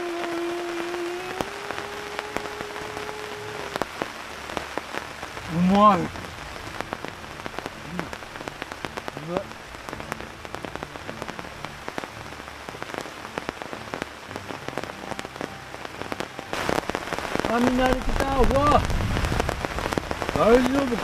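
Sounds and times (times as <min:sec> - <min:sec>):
heavy rain on tent fabric: 0:00.0 - 0:21.0.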